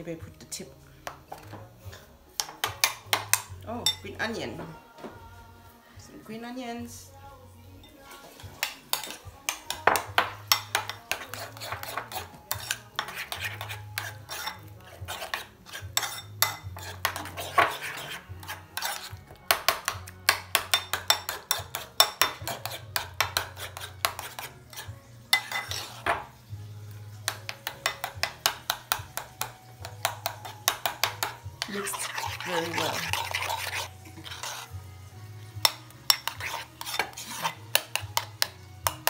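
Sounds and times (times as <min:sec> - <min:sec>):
spoon clinking against bowl: 0:01.4 - 0:04.2, 0:07.8 - 0:26.3, 0:27.3 - 0:34.7, 0:35.6 - 0:39.0.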